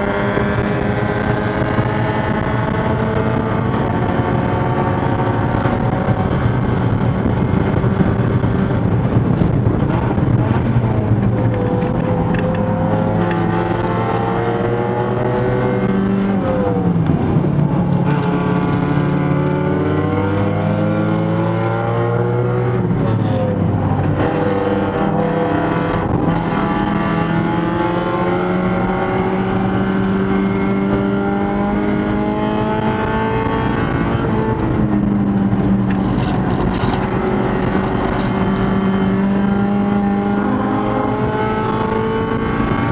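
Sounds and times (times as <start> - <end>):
racing car engine revving: 0.0 - 42.9
road and wind noise: 0.0 - 42.9.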